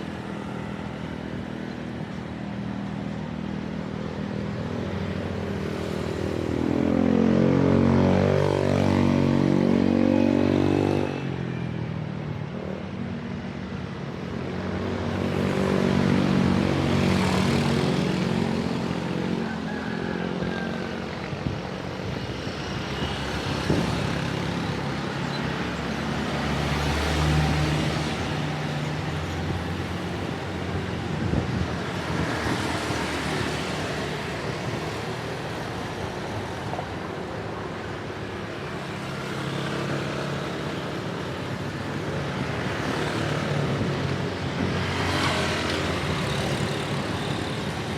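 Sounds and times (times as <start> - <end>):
traffic din: 0.0 - 47.9
vehicles passing: 0.0 - 47.9.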